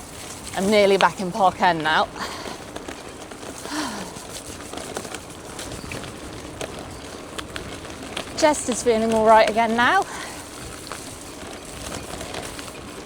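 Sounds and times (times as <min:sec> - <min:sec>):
bike tyres rolling on wet gravel: 0:00.0 - 0:13.0
small ticks of grit and raindrops: 0:00.0 - 0:13.0.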